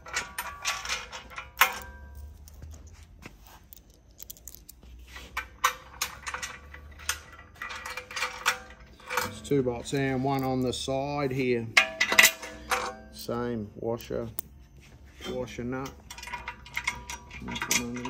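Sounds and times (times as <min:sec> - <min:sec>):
metal hardware clinking: 0:00.0 - 0:14.6, 0:15.2 - 0:18.0.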